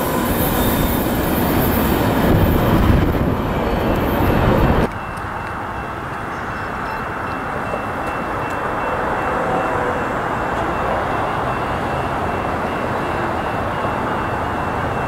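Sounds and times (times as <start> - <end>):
distant diesel train rumble: 0.0 - 15.0.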